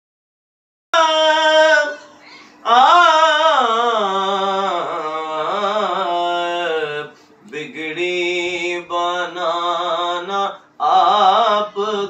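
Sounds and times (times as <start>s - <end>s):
man singing unaccompanied: 0.9s - 12.0s.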